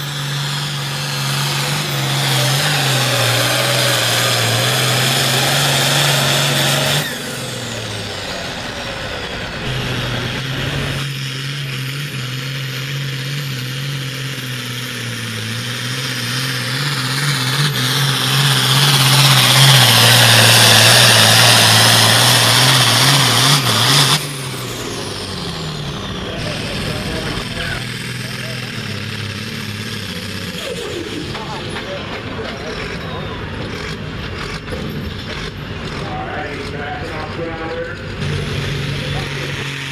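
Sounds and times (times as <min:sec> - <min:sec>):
tractor diesel engines at full power: 0:00.0 - 0:39.9.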